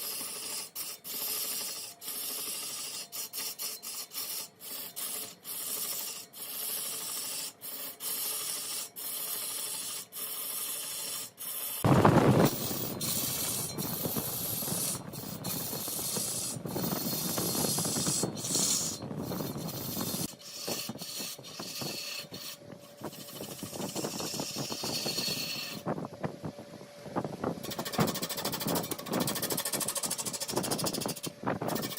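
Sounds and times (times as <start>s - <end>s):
wood scraping on a lathe: 0.0s - 25.9s, 27.6s - 31.9s.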